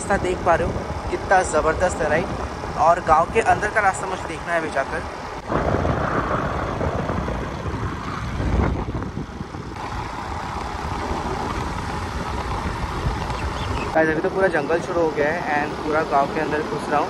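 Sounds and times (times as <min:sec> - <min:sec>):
low wind gust: 0:00.0 - 0:17.0
wind and road noise: 0:00.0 - 0:17.0.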